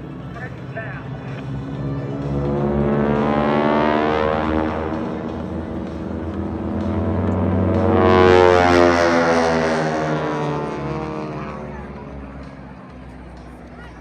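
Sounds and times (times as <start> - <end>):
propeller aircraft passing low: 0.0 - 14.0.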